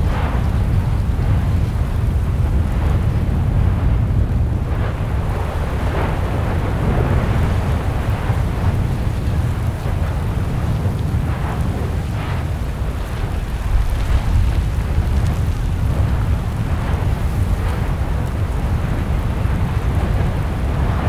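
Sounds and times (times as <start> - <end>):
lava fountain rumbling: 0.0 - 21.0.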